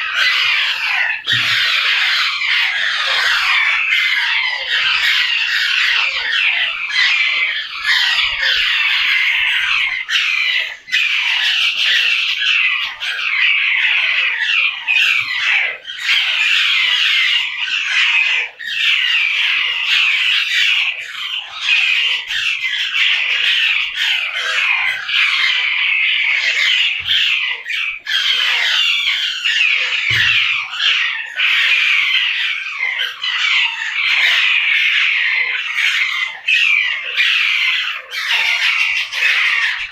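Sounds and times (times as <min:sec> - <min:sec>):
parrots squawking and chirping: 0:00.0 - 0:39.9.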